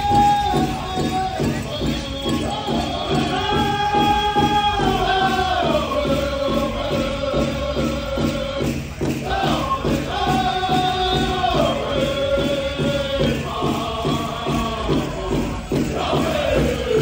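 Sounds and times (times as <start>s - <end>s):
big drum beating steadily: 0.0s - 17.0s
singers' voices holding long notes: 0.0s - 17.0s.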